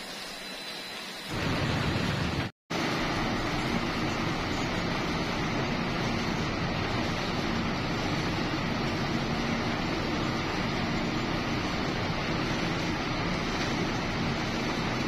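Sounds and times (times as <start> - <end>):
refrigeration compressor running: 1.2 - 15.0.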